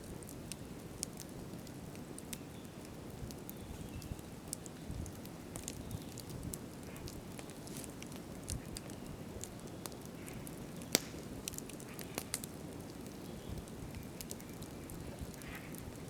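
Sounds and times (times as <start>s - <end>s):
campfire crackling: 0.0s - 16.0s
fire popping: 0.0s - 16.0s.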